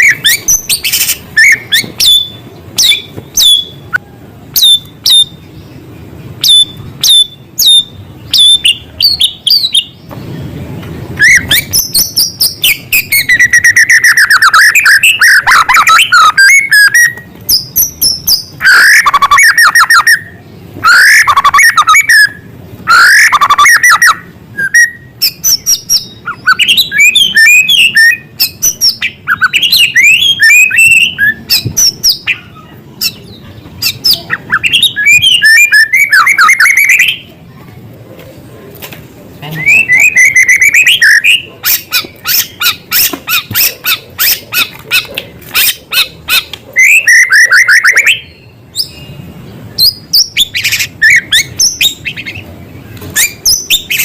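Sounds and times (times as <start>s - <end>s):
songbird singing: 0.0s - 37.7s, 39.3s - 54.0s.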